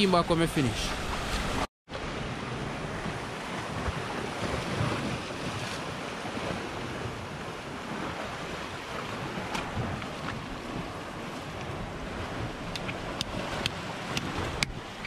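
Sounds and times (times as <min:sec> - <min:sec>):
sea surf on rocks: 0:00.0 - 0:15.0
wind buffeting microphone: 0:00.9 - 0:15.0.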